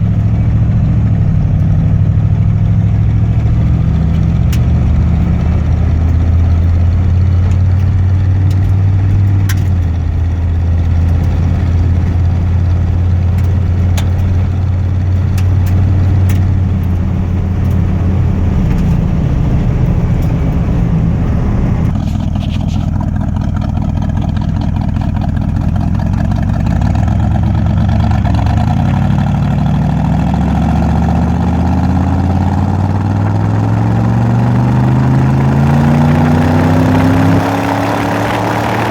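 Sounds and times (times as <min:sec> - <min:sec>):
vee eight engine rumbling: 0:00.0 - 0:38.9.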